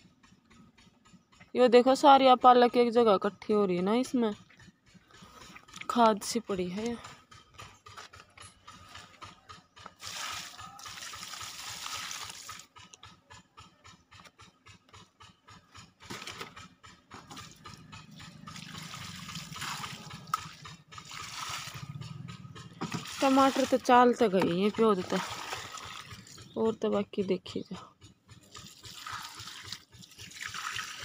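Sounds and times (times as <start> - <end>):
water trickling along furrows: 0.0 - 31.0.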